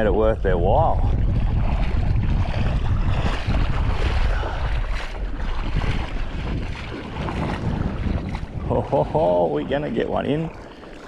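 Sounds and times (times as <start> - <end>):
water sloshing and splashing: 0.0 - 11.0
wind buffeting microphone: 0.0 - 11.0.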